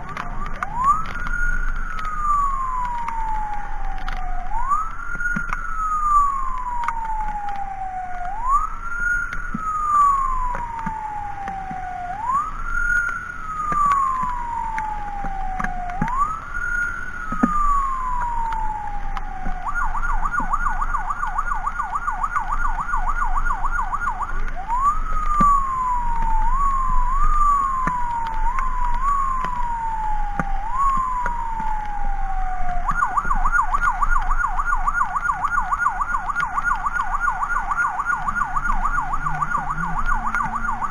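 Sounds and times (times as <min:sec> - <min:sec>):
electronic emergency siren: 0:00.0 - 0:40.9
hiss of wet road and rain: 0:00.0 - 0:40.9
siren chirps: 0:00.0 - 0:40.9.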